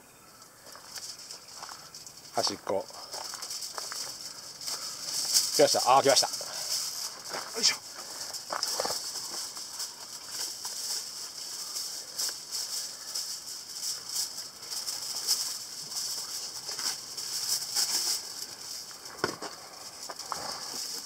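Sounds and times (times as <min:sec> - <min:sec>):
kitchen foil crinkling: 0:00.5 - 0:21.0.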